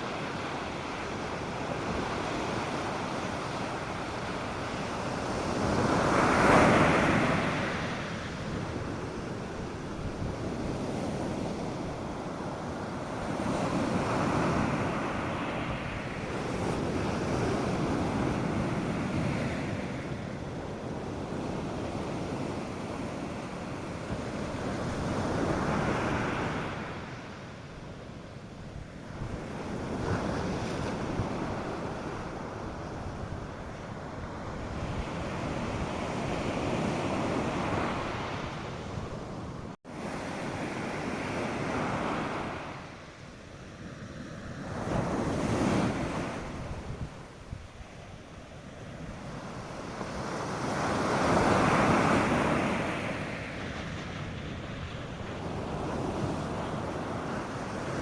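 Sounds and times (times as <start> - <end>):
surf breaking on a beach: 0.0 - 58.0
wind on the microphone: 0.0 - 58.0.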